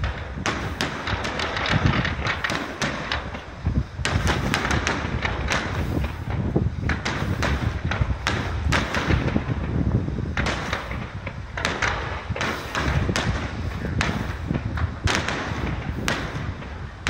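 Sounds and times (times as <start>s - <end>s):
continuous low rumble: 0.0s - 17.0s
fireworks bursting with sharp bangs: 0.0s - 17.0s.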